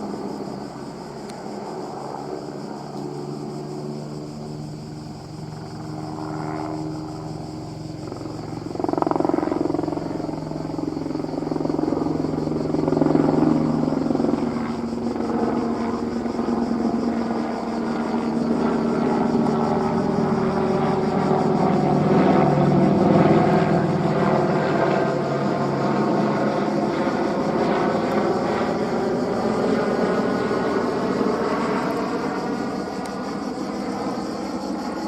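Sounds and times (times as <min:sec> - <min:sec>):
helicopter drone: 0:00.0 - 0:35.0.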